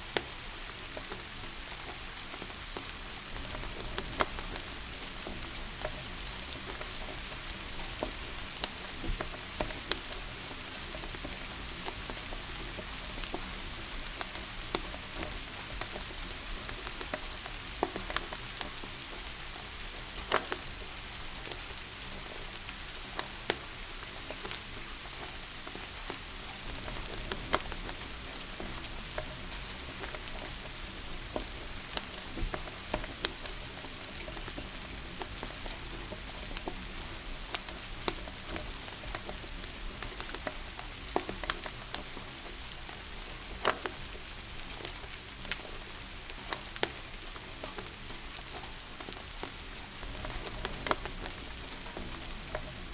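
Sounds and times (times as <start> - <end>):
rain hissing: 0.0 - 52.9
wood fire crackling: 0.0 - 52.9.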